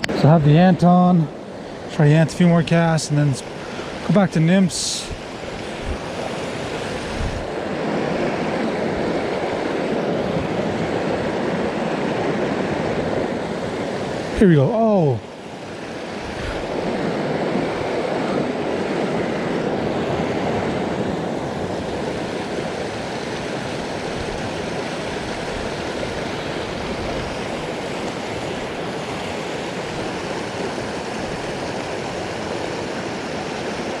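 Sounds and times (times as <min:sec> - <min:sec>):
stream water rushing: 0:00.0 - 0:34.0.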